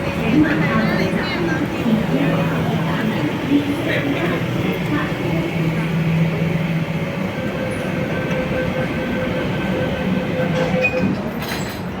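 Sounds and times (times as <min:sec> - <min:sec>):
metro train rumbling: 0:00.0 - 0:12.0.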